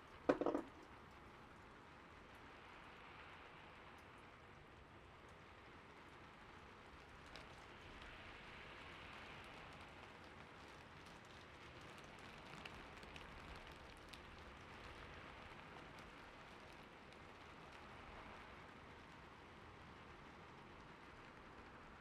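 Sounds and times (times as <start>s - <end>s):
faint rain: 0.0s - 22.0s.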